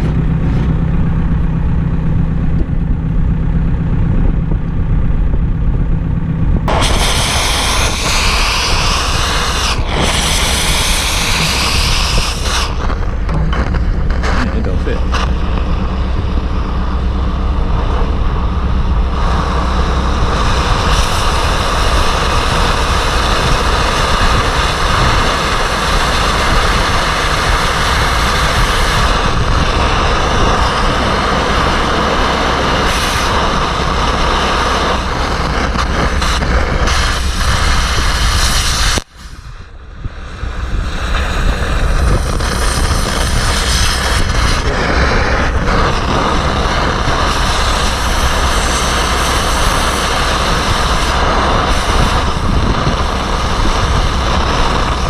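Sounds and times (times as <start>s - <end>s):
harsh roar of arc gouging steel: 4.9s - 55.0s.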